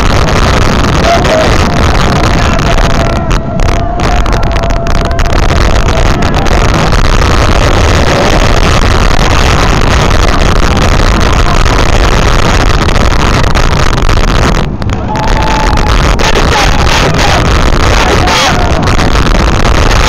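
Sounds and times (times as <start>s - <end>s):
roller coaster train rumbling: 0.0s - 20.0s
wind on microphone: 0.0s - 20.0s.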